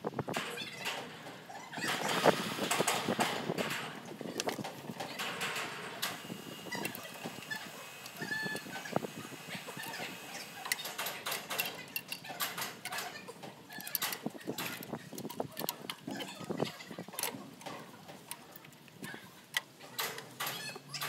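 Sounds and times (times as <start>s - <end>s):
tools clicking and knocking on metal: 0.3s - 9.0s, 9.8s - 21.0s.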